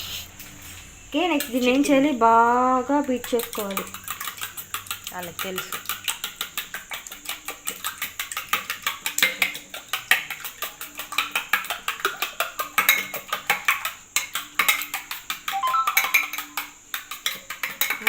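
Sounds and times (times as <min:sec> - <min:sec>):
eggs beaten in a bowl: 0:01.2 - 0:18.0.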